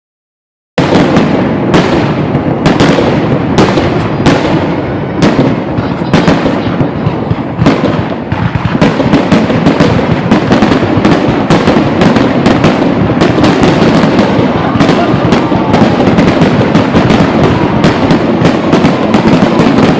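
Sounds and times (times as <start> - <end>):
fireworks shell bursts booming: 0.8 - 19.9
rumble of explosions: 0.8 - 19.9.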